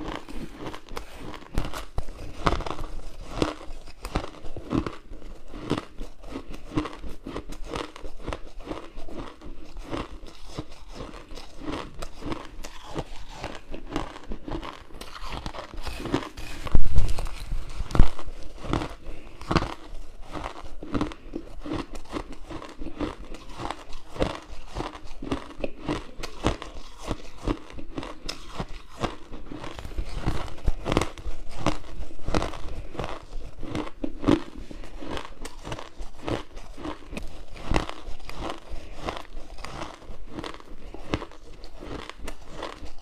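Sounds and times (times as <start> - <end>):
ice crunching in mouth: 0.0 - 43.0.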